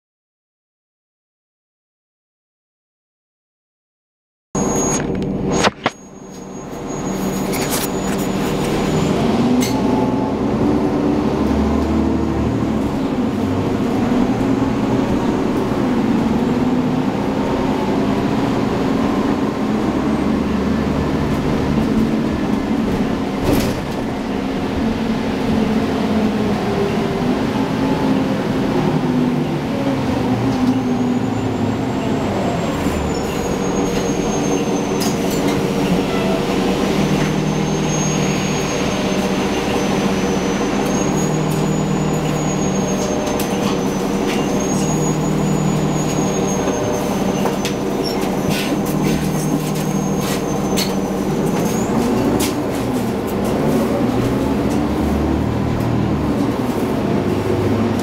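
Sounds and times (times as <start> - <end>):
bus engine drone: 4.6 - 58.0
road rumble: 4.6 - 58.0.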